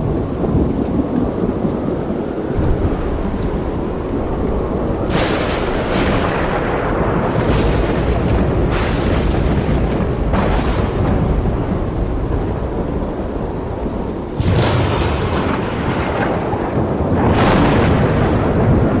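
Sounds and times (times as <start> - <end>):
rolling thunder: 0.0 - 19.0
steady rain: 0.0 - 19.0
sharp thunder cracks: 2.5 - 19.0.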